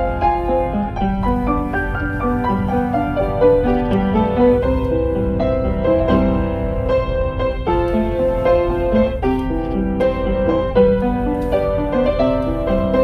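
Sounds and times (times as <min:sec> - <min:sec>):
low bass: 0:00.0 - 0:11.5
piano melody over chords: 0:00.0 - 0:13.0.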